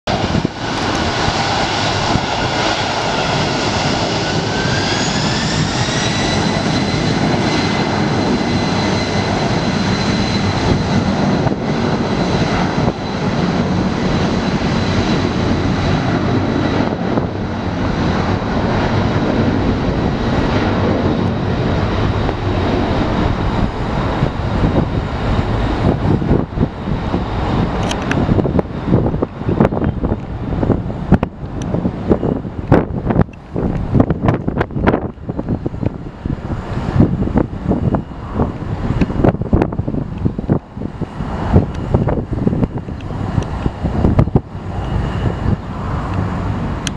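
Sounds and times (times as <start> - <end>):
jet engines roaring and whining: 0.0 - 46.9.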